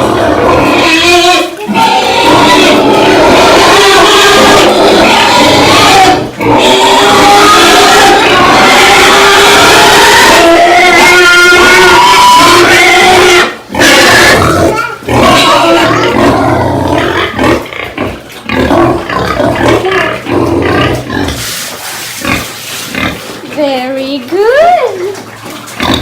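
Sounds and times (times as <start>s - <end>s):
pigs squealing and grunting: 0.0s - 23.4s, 24.8s - 26.0s.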